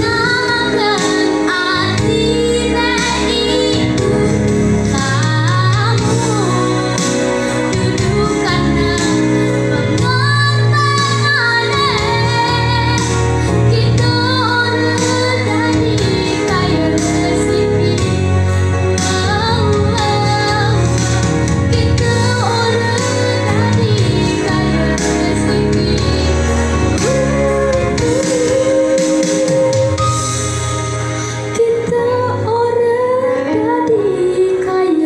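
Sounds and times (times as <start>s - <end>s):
girl singing into a microphone: 0.0s - 30.4s, 31.5s - 35.0s
instrumental accompaniment: 0.0s - 35.0s.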